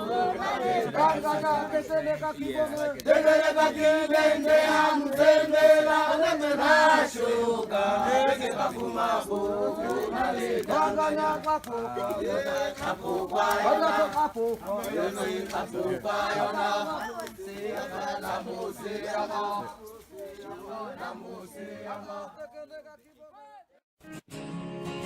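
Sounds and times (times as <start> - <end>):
voices chanting together: 0.0 - 23.7.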